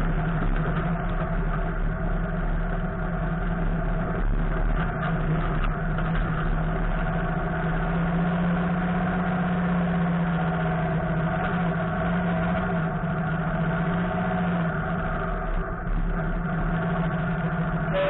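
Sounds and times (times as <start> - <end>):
buggy engine running: 0.0 - 18.0.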